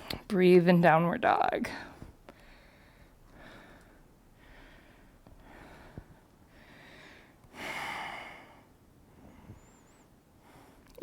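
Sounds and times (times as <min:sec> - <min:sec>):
person breathing: 0:01.7 - 0:11.0.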